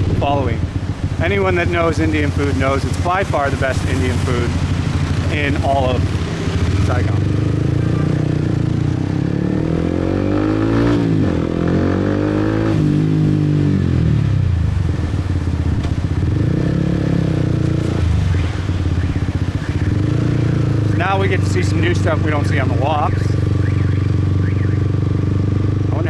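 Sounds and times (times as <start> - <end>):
motorbike engine: 0.0 - 26.0.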